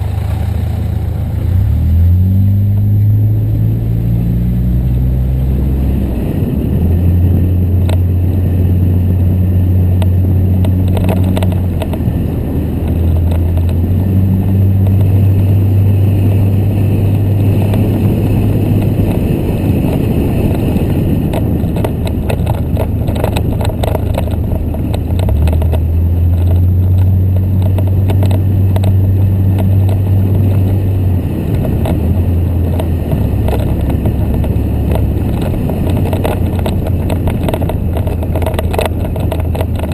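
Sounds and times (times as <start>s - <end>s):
vehicle driving drone: 0.0s - 39.9s.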